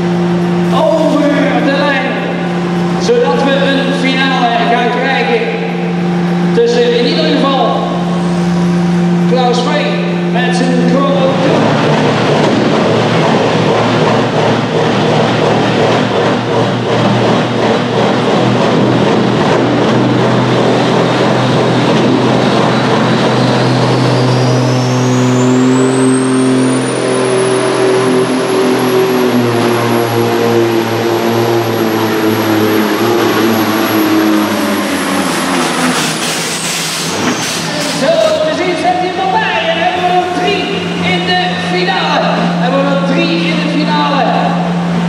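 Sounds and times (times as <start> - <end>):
high whine: 0.0 - 45.0
tractor engine at high revs: 0.0 - 45.0.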